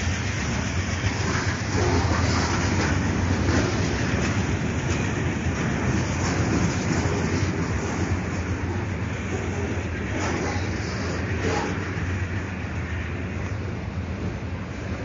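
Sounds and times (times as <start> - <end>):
freight train wheels on rails: 0.0 - 15.0.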